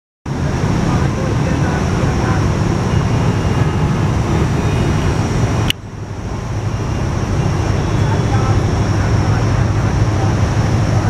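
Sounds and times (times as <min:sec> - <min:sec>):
diesel locomotive rumbling: 0:00.3 - 0:11.0
high whine: 0:00.3 - 0:11.0.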